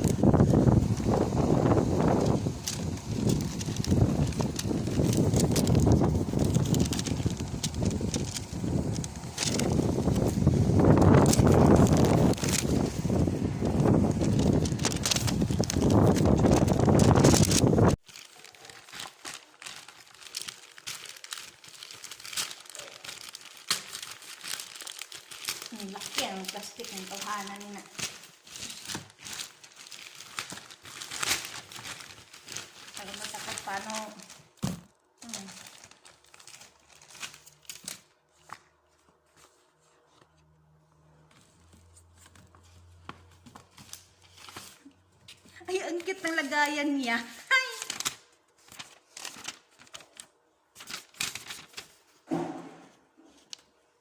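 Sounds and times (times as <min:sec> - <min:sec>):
plastic packaging crinkling: 0:00.0 - 0:40.5, 0:41.2 - 0:52.3.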